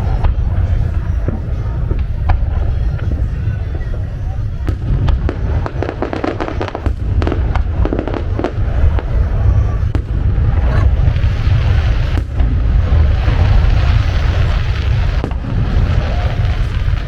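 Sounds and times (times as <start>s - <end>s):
fireworks crackling: 0.0s - 17.0s
low rumble of booms: 0.0s - 17.0s.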